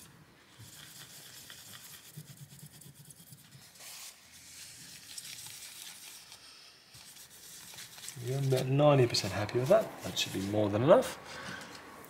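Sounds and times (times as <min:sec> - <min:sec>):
tissue paper wiping strokes: 0:00.0 - 0:11.2.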